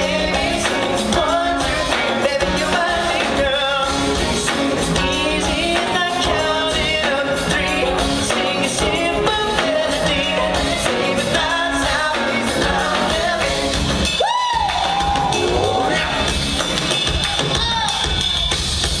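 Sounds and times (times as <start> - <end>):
vocal group singing pop song: 0.0 - 18.3
backing band playing: 0.0 - 19.0.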